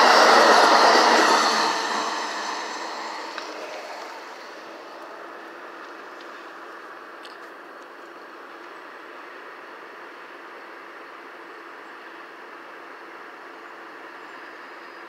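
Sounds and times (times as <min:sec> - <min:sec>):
train running: 0:00.0 - 0:14.1.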